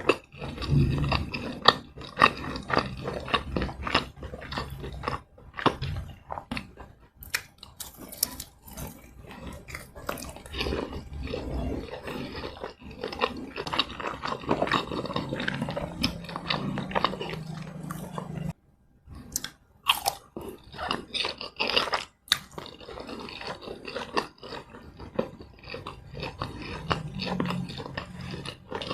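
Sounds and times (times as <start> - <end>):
chewing and crunching snacks: 0.0 - 28.9.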